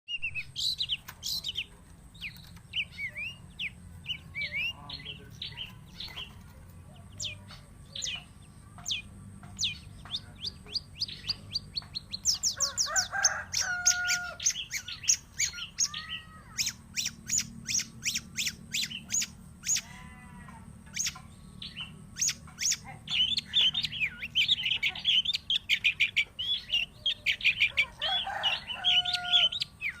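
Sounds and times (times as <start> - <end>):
bird song with chirps and trills: 0.1 - 30.0.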